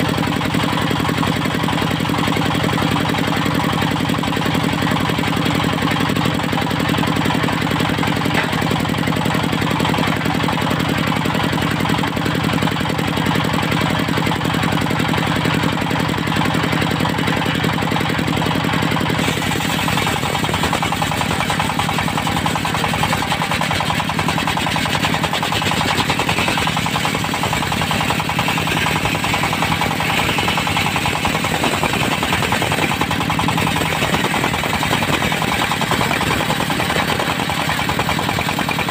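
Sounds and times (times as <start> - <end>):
diesel engine driving sawmill: 0.0 - 38.9.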